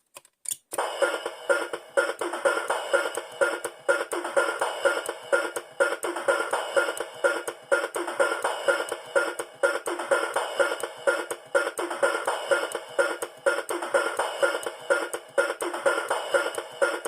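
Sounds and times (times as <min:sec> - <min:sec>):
alarm clock electronic tune: 0:00.8 - 0:17.0.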